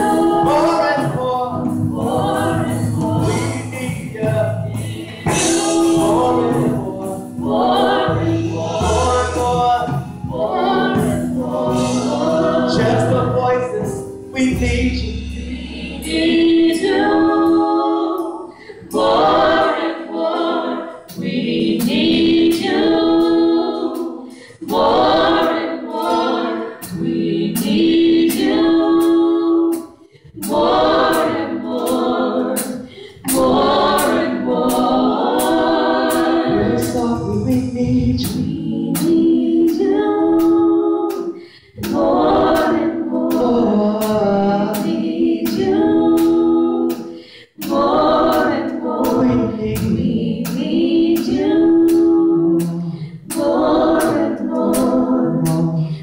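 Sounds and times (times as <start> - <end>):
women singing gospel in harmony: 0.0 - 14.2, 15.3 - 56.0.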